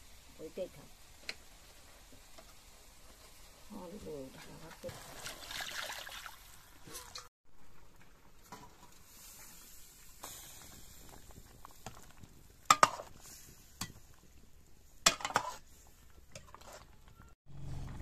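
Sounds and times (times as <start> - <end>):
faint sizzling hiss: 0.0 - 5.3, 6.4 - 17.3.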